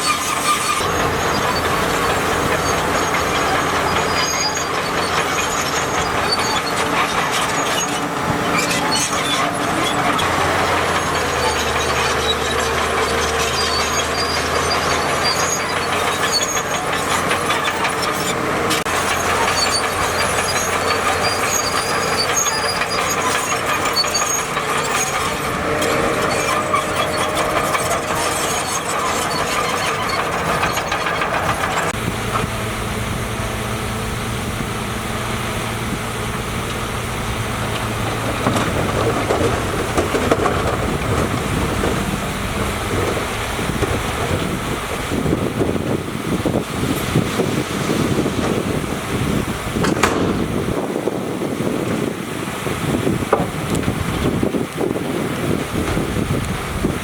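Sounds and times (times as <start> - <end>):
diesel engines running: 0.0 - 57.0
low engine hum: 0.0 - 57.0
machinery rattling and scraping: 0.0 - 57.0.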